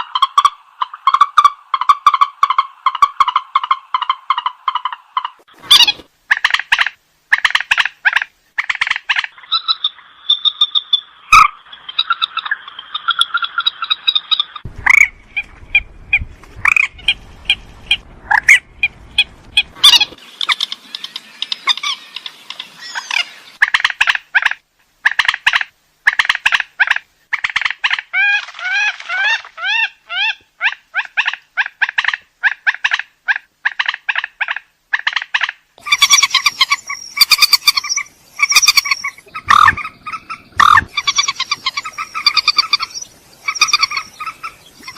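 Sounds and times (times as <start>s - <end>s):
swamphen calling: 0.0s - 15.9s, 16.6s - 44.9s.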